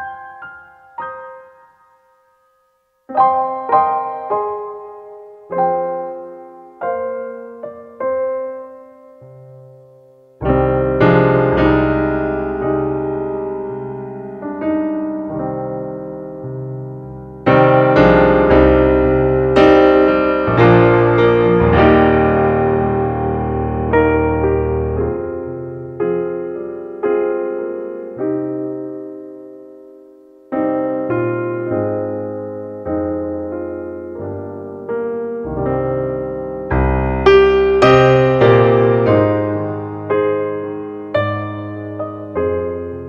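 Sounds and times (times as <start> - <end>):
slow piano chords: 0.0 - 43.0.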